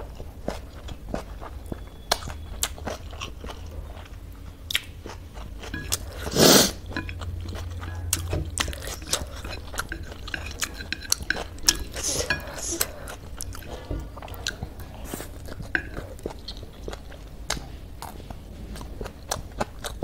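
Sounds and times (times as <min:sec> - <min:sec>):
person chewing noodles: 0:00.0 - 0:20.0.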